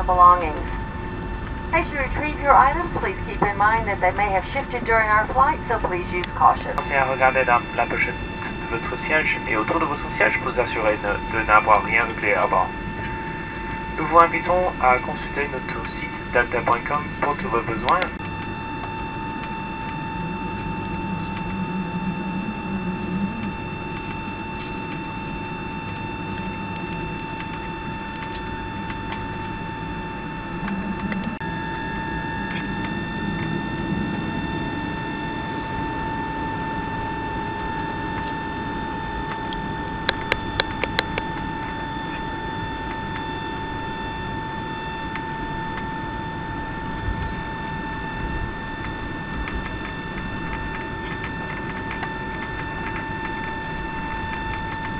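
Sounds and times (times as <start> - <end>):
high-pitched whine: 0.0 - 54.9
low cabin rumble: 0.0 - 54.9.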